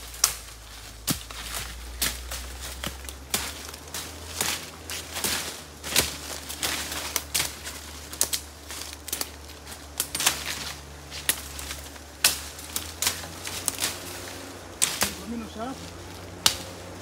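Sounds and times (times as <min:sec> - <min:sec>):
machete cutting brush: 0:00.0 - 0:17.0.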